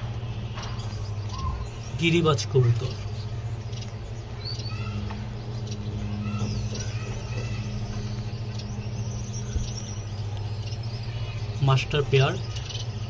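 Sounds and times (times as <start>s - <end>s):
low mechanical hum: 0.0s - 13.0s
faint high bird chirps: 0.4s - 13.0s.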